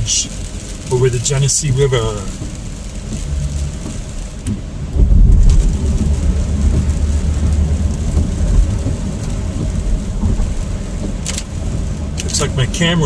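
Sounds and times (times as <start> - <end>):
rain and spray hiss: 0.0 - 13.0
tyre and road noise in car: 0.0 - 13.0.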